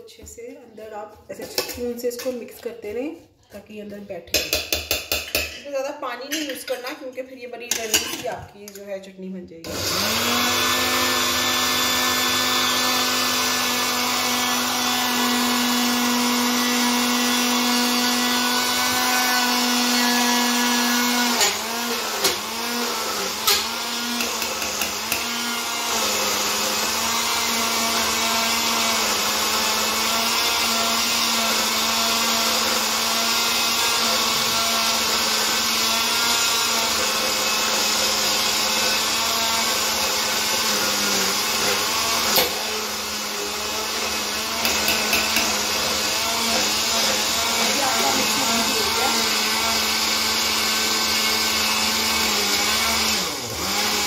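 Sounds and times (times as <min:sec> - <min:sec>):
mixer grinder motor running: 0:09.6 - 0:54.0.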